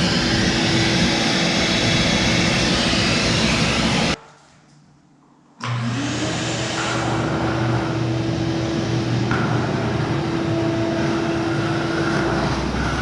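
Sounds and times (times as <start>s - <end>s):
shop vacuum whining: 0.0s - 4.2s, 5.6s - 13.0s.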